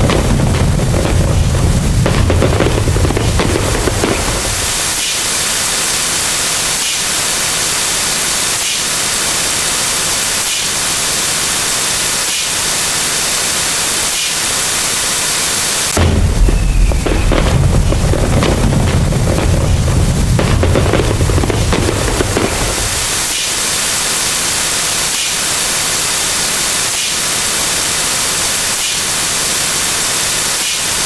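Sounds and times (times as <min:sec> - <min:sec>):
static-like hiss: 0:00.0 - 0:31.0.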